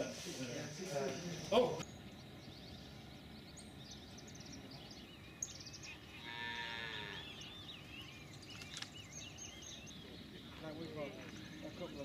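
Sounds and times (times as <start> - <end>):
quiet rural background hush: 0.0 - 12.0.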